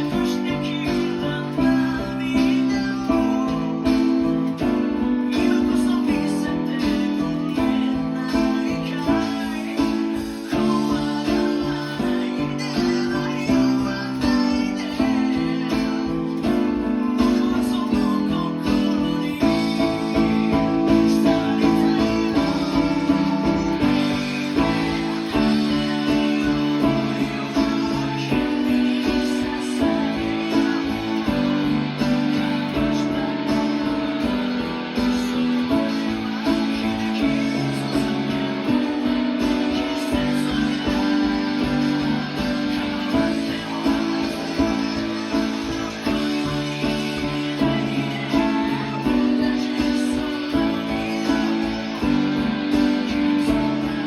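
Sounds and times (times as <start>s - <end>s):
electric guitar: 0.0s - 54.0s
keyboard chords: 0.0s - 54.0s
rock ballad band music: 0.0s - 54.0s.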